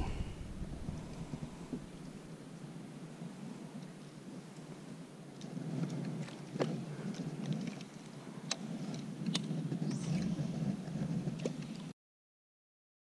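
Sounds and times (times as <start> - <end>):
wind on microphone: 0.0 - 11.9.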